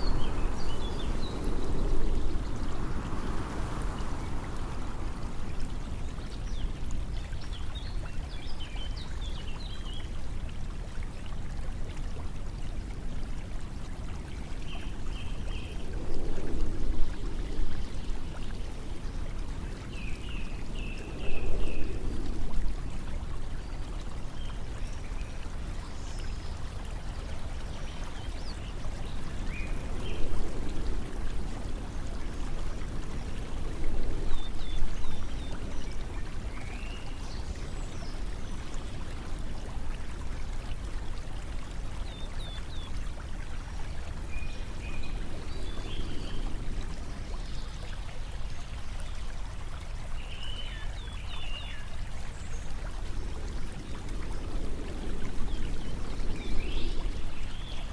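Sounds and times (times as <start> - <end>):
flowing stream water: 0.0 - 57.9.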